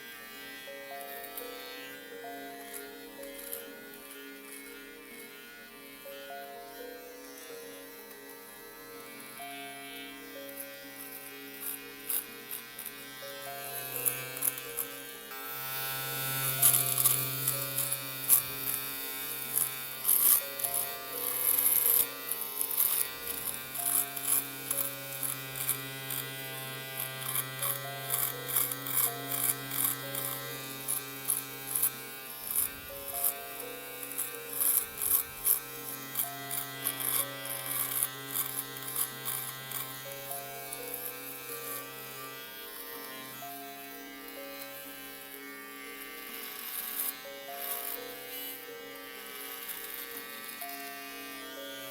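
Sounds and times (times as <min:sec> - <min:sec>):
electric shaver buzzing: 0:00.0 - 0:51.9.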